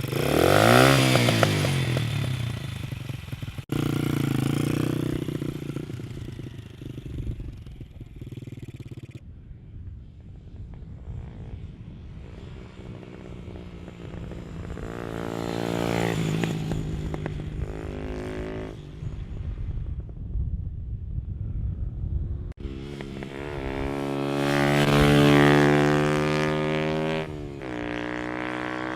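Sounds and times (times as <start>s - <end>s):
motorcycle riding past: 0.0s - 9.3s, 10.0s - 20.3s, 22.6s - 28.9s.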